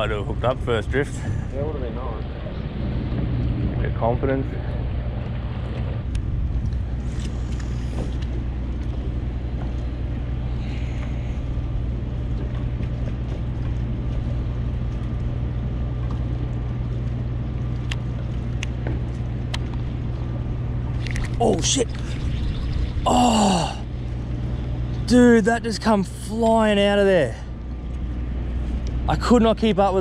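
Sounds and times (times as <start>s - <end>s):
boat motor droning: 0.0s - 30.0s.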